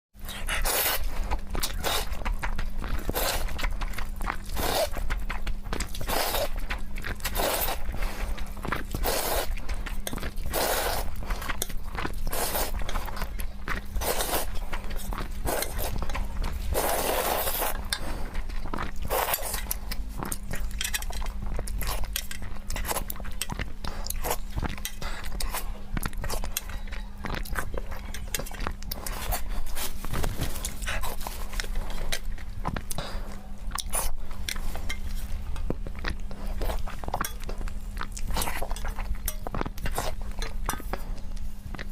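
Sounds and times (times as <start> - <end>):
chewing and wet mouth sounds: 0.2 - 41.9
steady low hum: 0.2 - 41.9.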